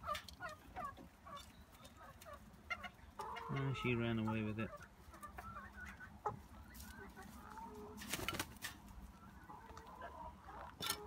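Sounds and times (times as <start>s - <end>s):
hens giving soft low calls: 0.0s - 8.1s, 8.8s - 11.0s
rustles and scratches in straw: 0.4s - 10.7s.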